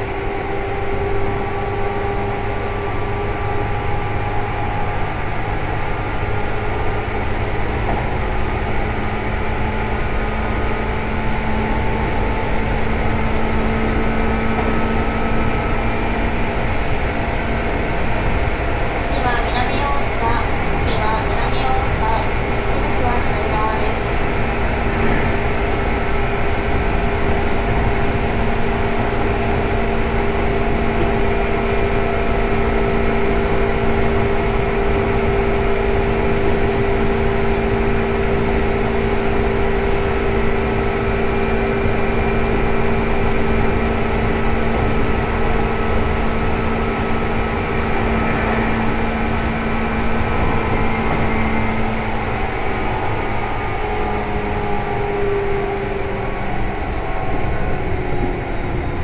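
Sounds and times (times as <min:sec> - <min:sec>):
train motor whine: 0:00.0 - 0:59.0
wheels rumbling on rail: 0:00.0 - 0:59.0.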